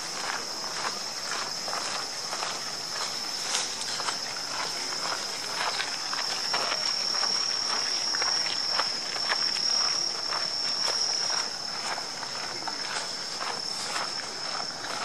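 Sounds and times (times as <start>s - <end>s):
footsteps on gravel: 0.0s - 15.0s
insects droning: 0.0s - 15.0s.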